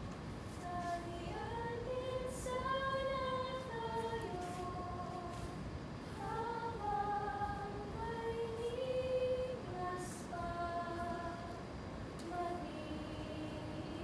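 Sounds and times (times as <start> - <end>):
steady background hiss: 0.0 - 14.0
woman singing wordless melody: 0.6 - 14.0.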